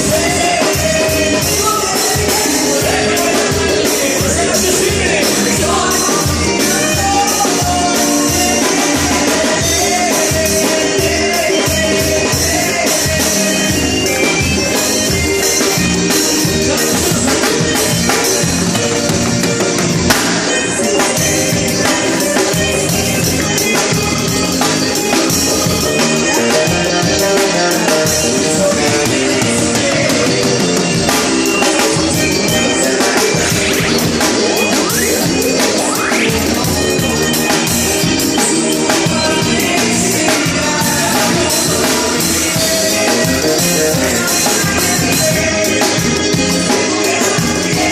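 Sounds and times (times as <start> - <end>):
band playing: 0.0 - 47.9
drum kit beat: 0.0 - 47.9.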